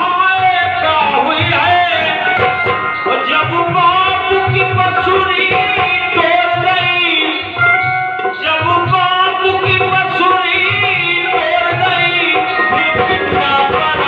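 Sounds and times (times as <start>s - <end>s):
background instruments: 0.0s - 14.0s
person singing: 0.0s - 14.0s
tabla strokes: 1.3s - 14.0s.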